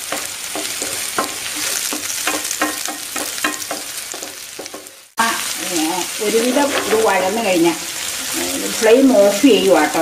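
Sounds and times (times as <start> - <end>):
spatula scraping a pan: 0.0 - 5.1, 6.2 - 9.3
vegetables sizzling in hot oil: 0.0 - 10.0.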